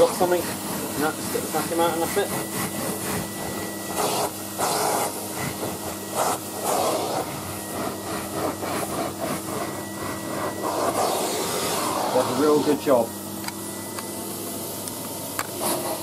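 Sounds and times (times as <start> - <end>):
vacuum cleaner running on carpet: 0.0 - 16.0.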